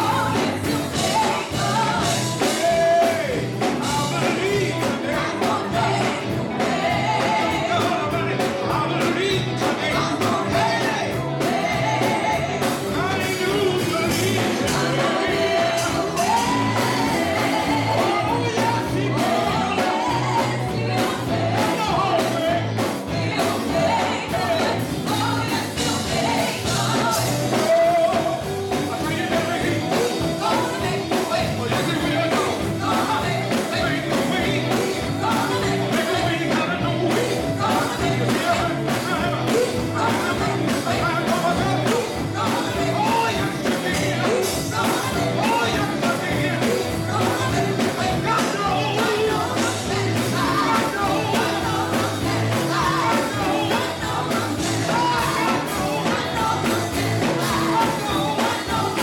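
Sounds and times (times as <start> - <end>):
band with drums and guitar: 0.0 - 59.0
group singing gospel song: 0.0 - 59.0.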